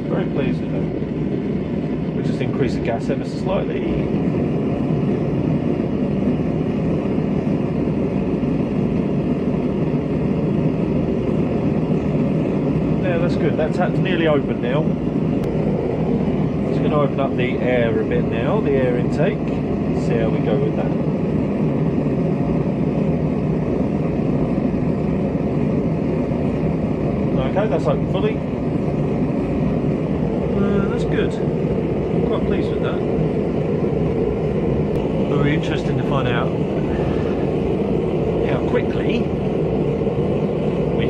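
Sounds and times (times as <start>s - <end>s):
gas forge burner rushing: 0.0s - 41.0s.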